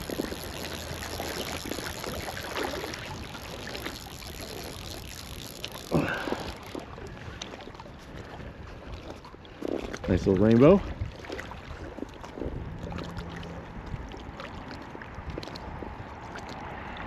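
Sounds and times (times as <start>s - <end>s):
small waves lapping and splashing: 0.0s - 17.0s.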